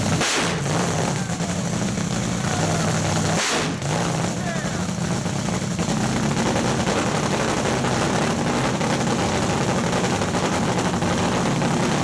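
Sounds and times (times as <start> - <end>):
dragster engine idling: 0.0 - 12.0.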